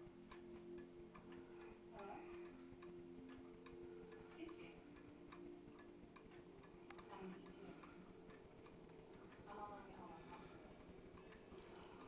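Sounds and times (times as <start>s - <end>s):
clock ticking: 0.0s - 12.0s.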